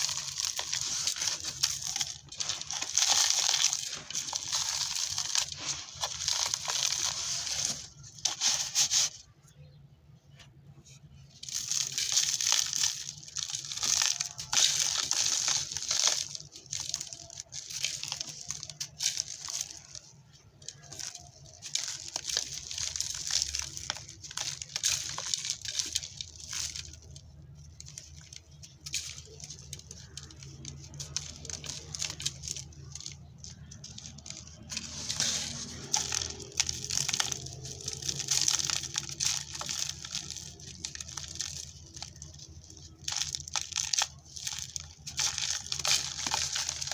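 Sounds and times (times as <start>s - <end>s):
dirt crumbling and crunching: 0.0s - 10.3s, 11.0s - 46.9s.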